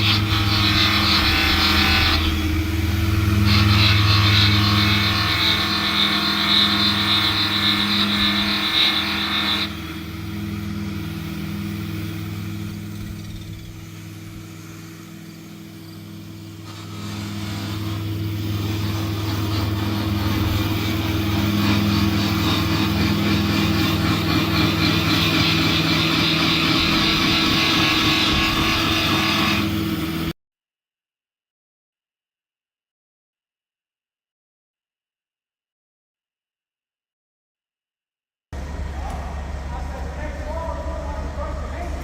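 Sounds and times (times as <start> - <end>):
truck engine droning: 0.0 - 30.3, 38.6 - 42.0.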